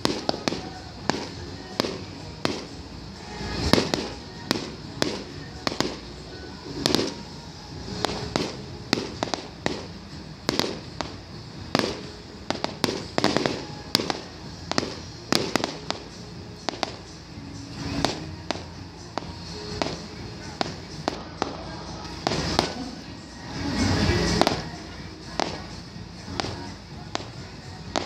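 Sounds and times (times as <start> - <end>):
deep fireworks booms: 0.0 - 17.1, 17.8 - 23.0, 23.6 - 28.0
fireworks bangs and crackles: 0.0 - 28.0.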